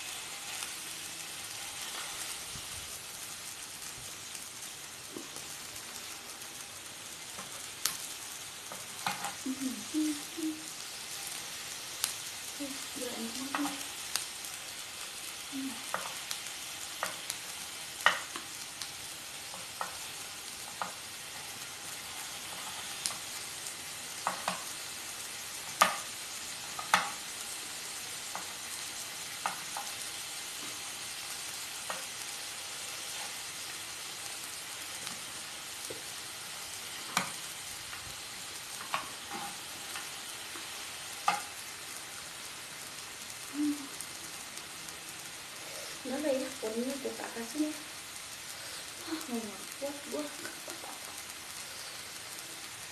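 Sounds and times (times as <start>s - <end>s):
meat sizzling in a pan: 0.0s - 52.9s.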